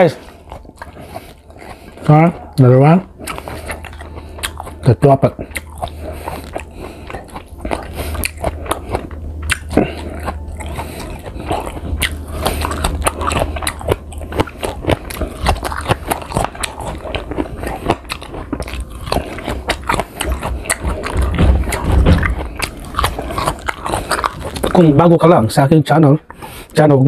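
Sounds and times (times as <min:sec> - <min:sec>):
crunching and chewing fruit: 0:00.0 - 0:27.0.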